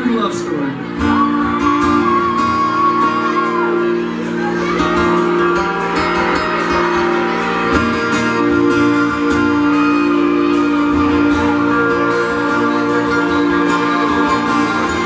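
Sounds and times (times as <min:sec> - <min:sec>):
live country band playing: 0:00.0 - 0:15.0.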